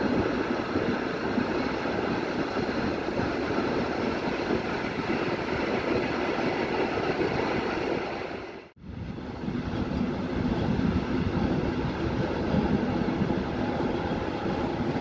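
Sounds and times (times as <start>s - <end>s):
train wheels rolling on rails: 0.0s - 8.7s, 9.4s - 15.0s
wind rushing: 0.0s - 15.0s.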